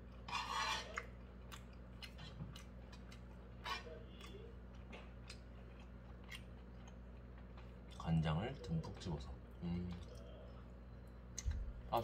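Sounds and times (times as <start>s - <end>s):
mouth chewing dumpling: 0.0s - 11.9s.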